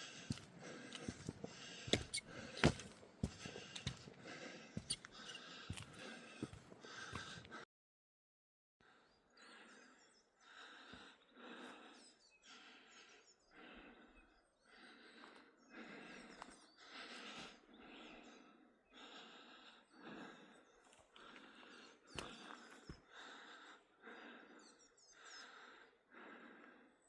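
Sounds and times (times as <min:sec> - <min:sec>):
heavy breathing: 0:00.0 - 0:07.7, 0:08.8 - 0:27.0.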